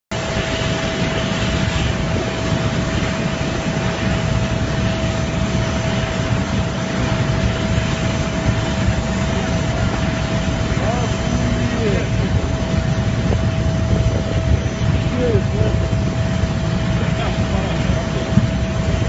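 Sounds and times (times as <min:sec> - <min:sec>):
aircraft engine rumble: 0:00.1 - 0:19.0
steady engine whine: 0:00.1 - 0:19.0.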